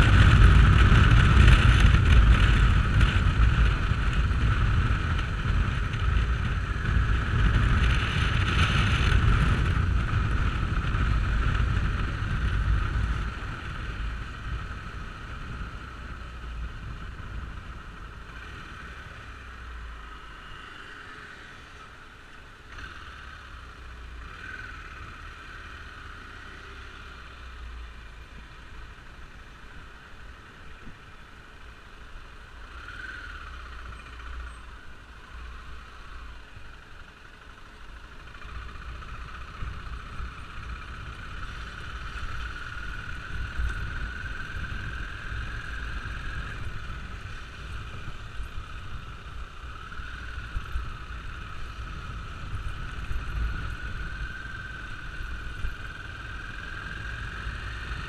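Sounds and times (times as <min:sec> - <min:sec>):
wind rumble: 0:00.0 - 0:21.2, 0:22.7 - 0:58.0
motorcycle engine drone: 0:00.0 - 0:58.0.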